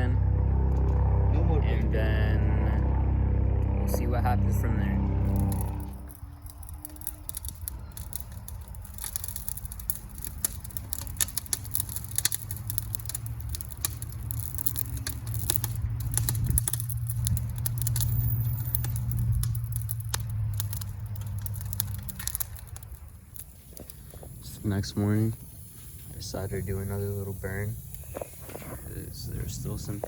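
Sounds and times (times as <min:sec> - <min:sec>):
low fire rumble: 0:00.0 - 0:30.0
wood fire crackling and popping: 0:05.2 - 0:30.0.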